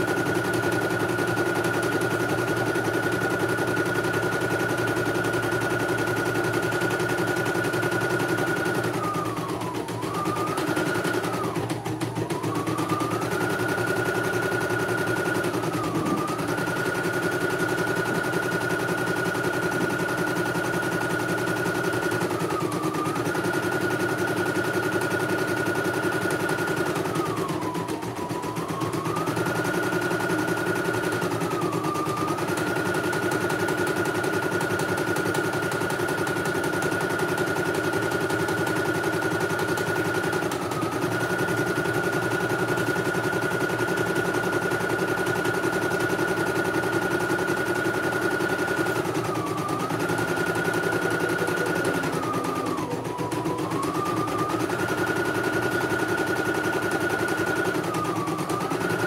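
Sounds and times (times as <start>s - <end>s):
embroidery machine motor whine: 0.0s - 59.0s.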